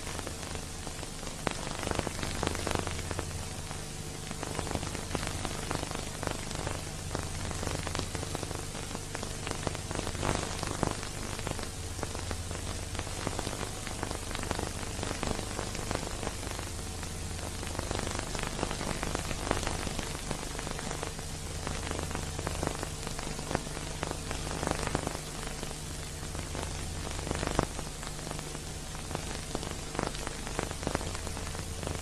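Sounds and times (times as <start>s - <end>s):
film surface hiss and crackle: 0.0s - 32.0s.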